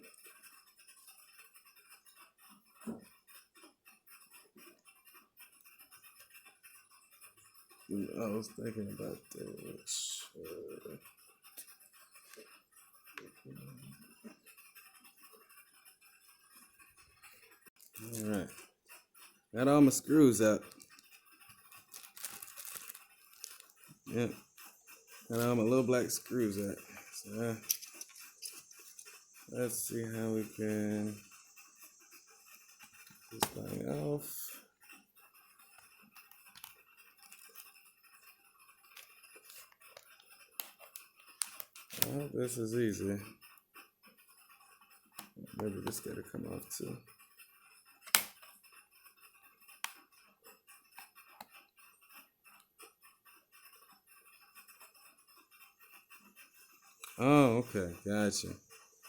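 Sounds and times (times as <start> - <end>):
screwdriver scratching and clicking: 0.0 - 59.0.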